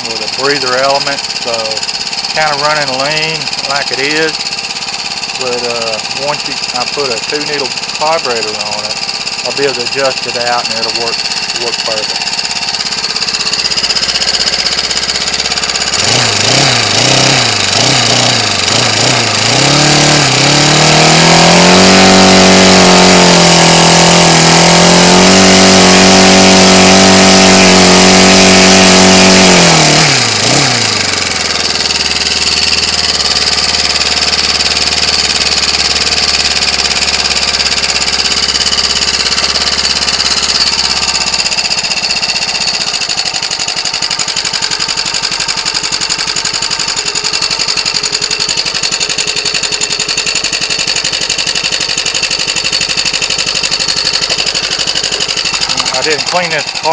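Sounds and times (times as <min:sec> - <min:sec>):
string trimmer engine revving: 0:00.0 - 0:56.9.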